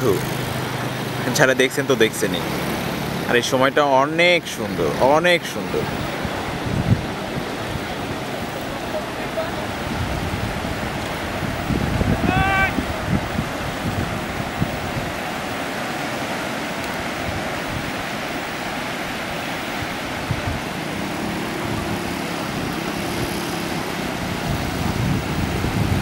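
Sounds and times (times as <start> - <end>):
surf washing onto beach: 0.0 - 26.0.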